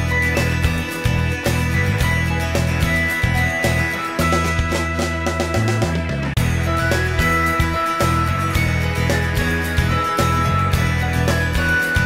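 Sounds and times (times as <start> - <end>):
music with a steady beat: 0.0 - 12.0.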